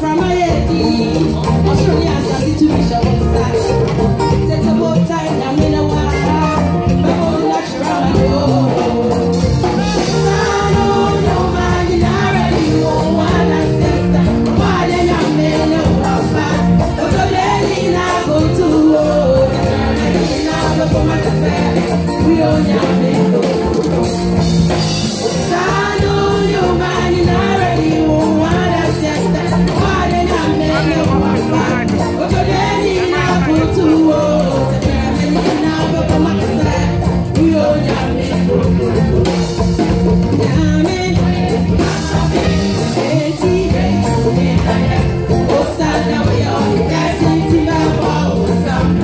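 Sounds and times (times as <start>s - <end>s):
gospel choir singing: 0.0s - 49.0s
instrumental accompaniment: 0.0s - 49.0s
lead singer singing: 0.0s - 49.0s.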